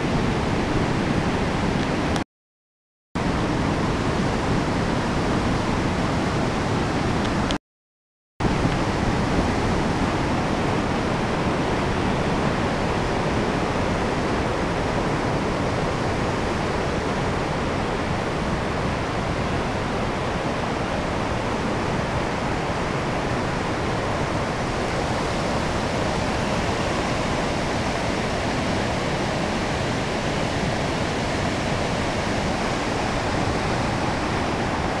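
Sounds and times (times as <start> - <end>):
water rushing over rapids: 3.2 - 7.6, 8.4 - 35.0.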